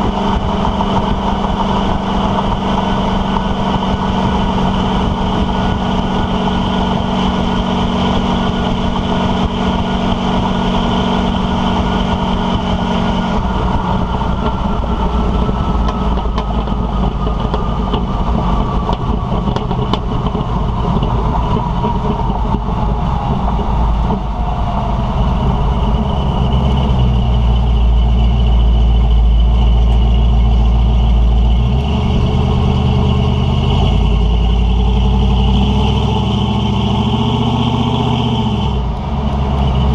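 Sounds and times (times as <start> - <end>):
road noise: 0.0 - 39.9
truck engine exhaust drone: 0.0 - 39.9
whine falling in pitch: 0.0 - 39.9.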